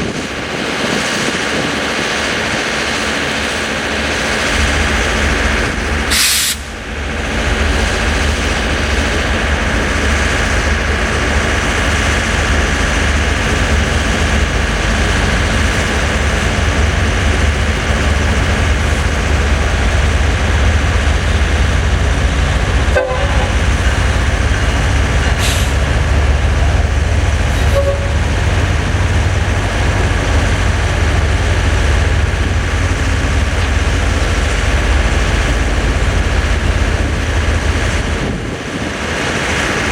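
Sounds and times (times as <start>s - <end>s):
train passing rumble: 0.0s - 39.9s.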